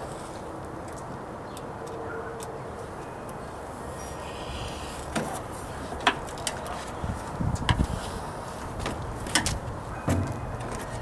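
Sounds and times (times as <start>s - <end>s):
background noise: 0.0s - 11.0s.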